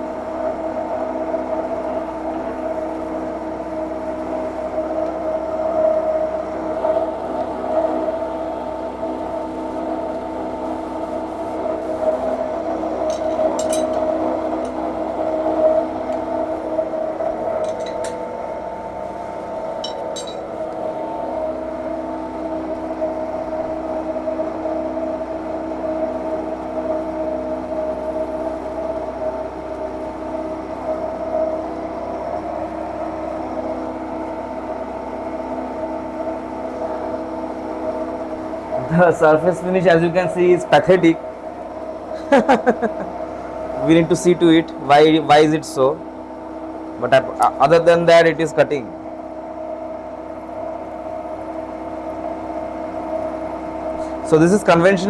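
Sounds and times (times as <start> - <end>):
milling machine hum: 0.0 - 55.0.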